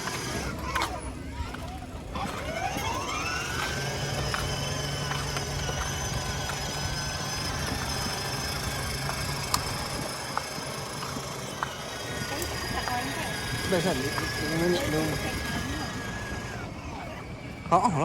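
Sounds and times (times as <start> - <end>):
motor whining and humming: 0.0 - 18.0.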